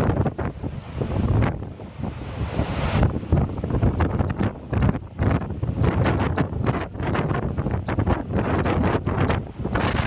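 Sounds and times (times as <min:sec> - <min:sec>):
gusty wind buffeting microphone: 0:00.0 - 0:10.0.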